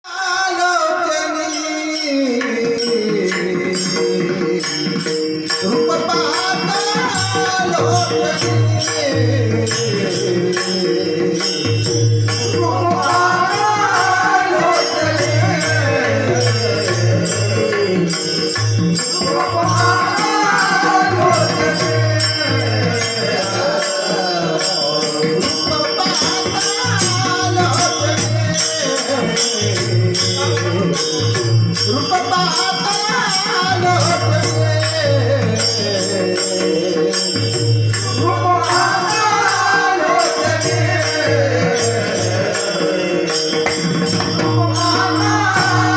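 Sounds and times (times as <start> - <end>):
jingling percussion beat: 1.4 - 45.9.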